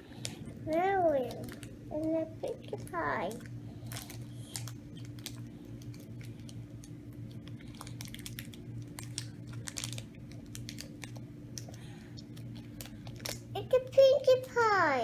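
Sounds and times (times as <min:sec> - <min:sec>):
steady low hum: 0:00.0 - 0:15.0
paper wrapper crinkling: 0:00.1 - 0:11.7, 0:12.3 - 0:13.5.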